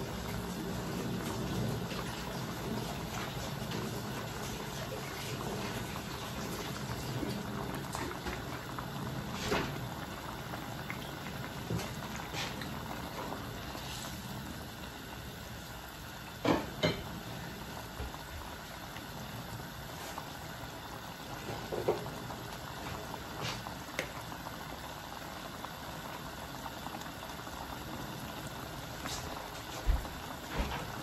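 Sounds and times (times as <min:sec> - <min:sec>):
stew bubbling in a wok: 0:00.0 - 0:31.0.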